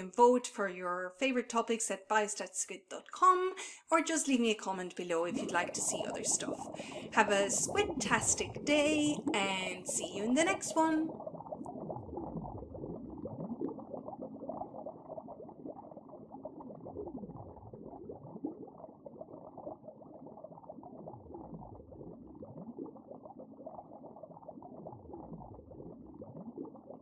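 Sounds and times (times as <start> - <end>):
muffled bubbling water: 4.8 - 27.0.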